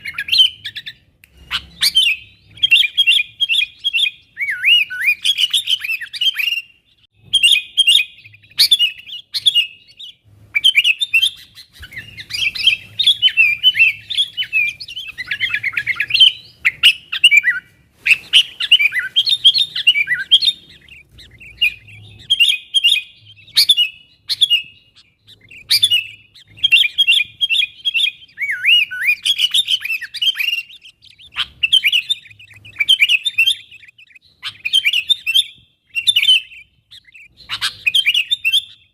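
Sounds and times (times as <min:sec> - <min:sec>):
bulbul chirping: 0:00.0 - 0:38.9.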